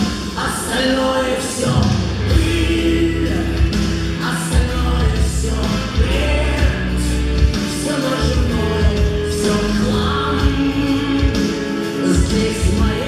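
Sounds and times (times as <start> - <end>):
choir-like singing: 0.0 - 13.0
bass line: 1.6 - 13.0
music with held notes: 2.1 - 13.0.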